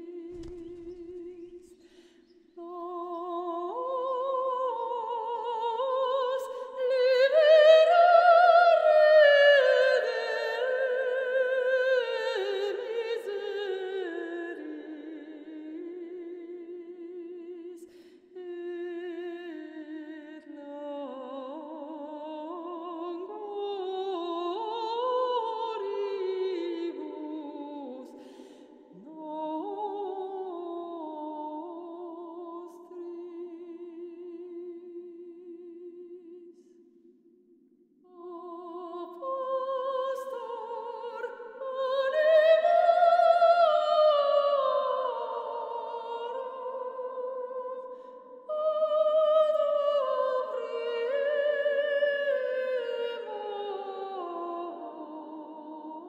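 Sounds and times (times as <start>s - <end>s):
woman singing wordless long notes: 2.6s - 36.5s, 38.0s - 56.0s.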